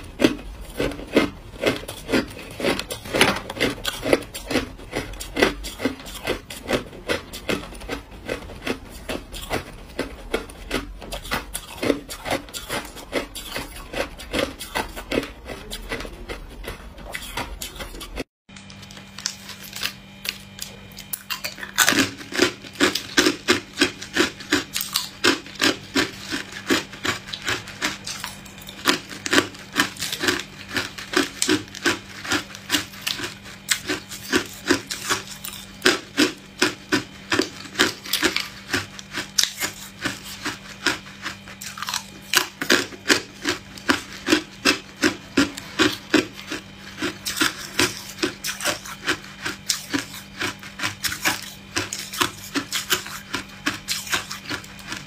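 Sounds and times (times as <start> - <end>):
ice crunching between teeth: 0.0 - 55.0.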